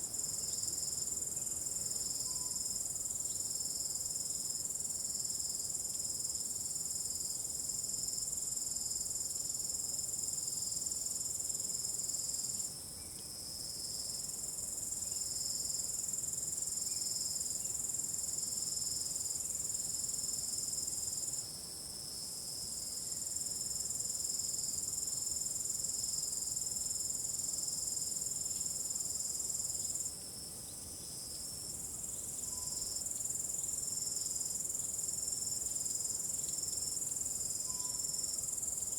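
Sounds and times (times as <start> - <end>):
pulsing cricket chirp: 0.0 - 38.9.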